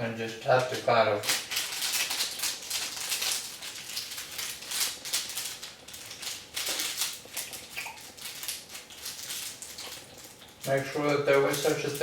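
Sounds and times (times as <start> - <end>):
dry rustling and crackling: 0.6 - 12.0.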